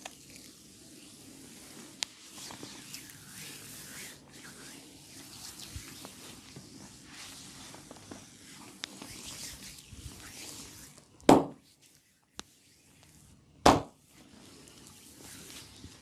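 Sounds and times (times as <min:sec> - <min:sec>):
massage rubbing and rustling: 0:00.0 - 0:16.0.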